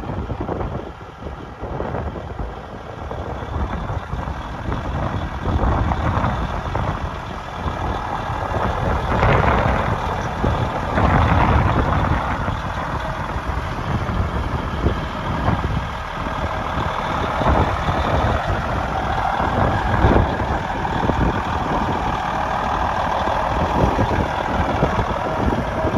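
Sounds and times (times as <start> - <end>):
diesel truck engine running: 0.0 - 25.9.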